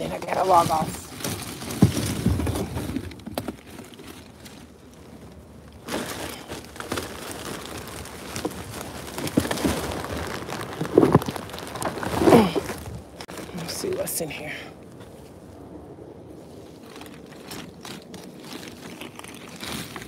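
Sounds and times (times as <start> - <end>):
plastic trash bag crinkling: 0.0 - 13.9, 16.8 - 20.0.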